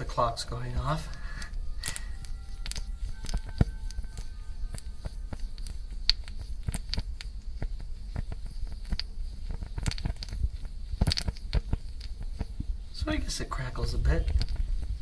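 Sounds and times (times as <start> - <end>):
gel fuel crackling and popping: 0.0 - 15.0
low steady rumble of burning: 0.0 - 15.0.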